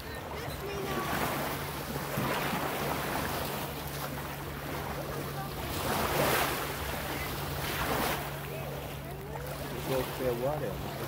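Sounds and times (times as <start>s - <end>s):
small waves washing ashore: 0.0s - 11.0s.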